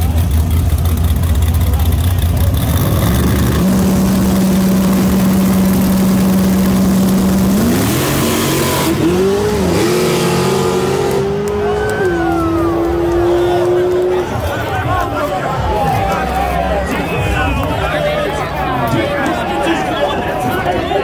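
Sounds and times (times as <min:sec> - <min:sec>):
truck engine revving: 0:00.0 - 0:20.9.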